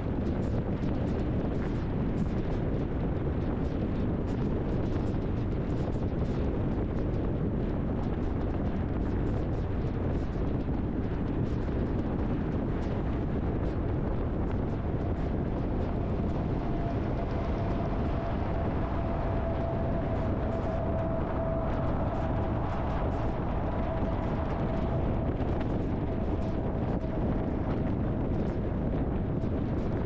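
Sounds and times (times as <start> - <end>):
car road and wind noise: 0.0 - 30.0
faint steady whine: 0.0 - 30.0.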